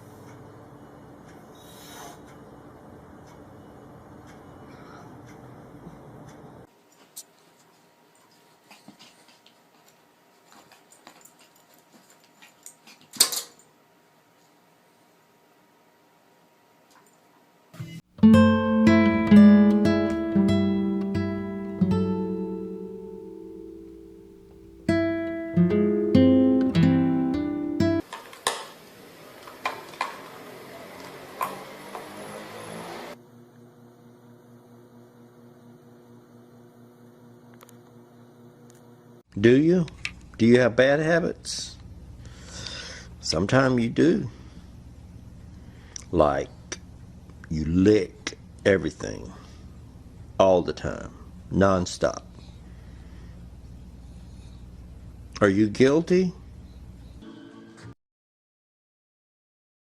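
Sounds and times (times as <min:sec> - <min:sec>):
low electrical hum: 0:02.3 - 0:28.0, 0:33.2 - 0:57.2.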